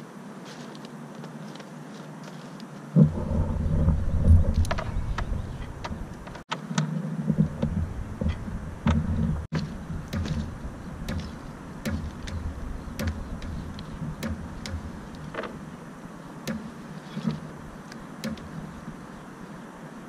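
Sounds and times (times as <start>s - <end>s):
wind rumble on microphone: 2.9s - 20.0s.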